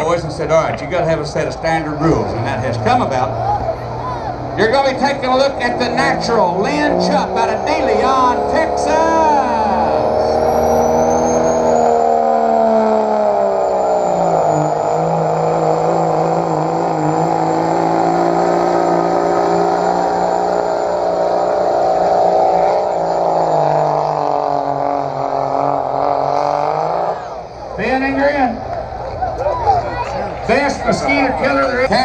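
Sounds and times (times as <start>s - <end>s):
diesel truck engine under load: 0.0s - 32.0s.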